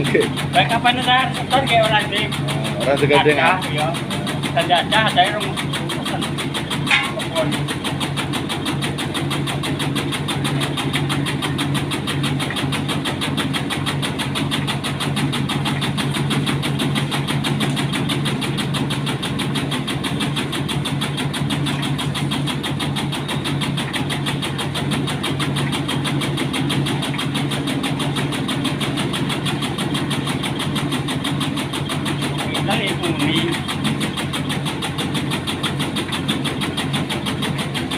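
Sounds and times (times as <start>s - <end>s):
small engine running steadily: 0.0s - 37.9s.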